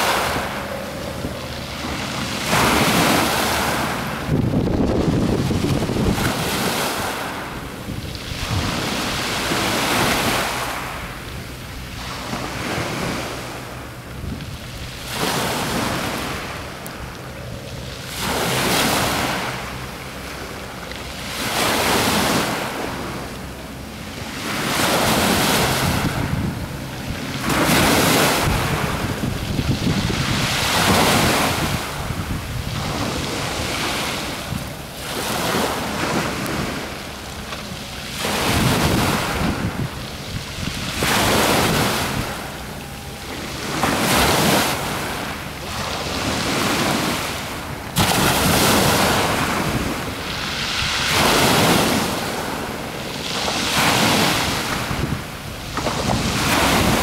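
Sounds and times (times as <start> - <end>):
small waves washing onto shore: 0.0 - 57.0
wind on microphone: 0.0 - 57.0.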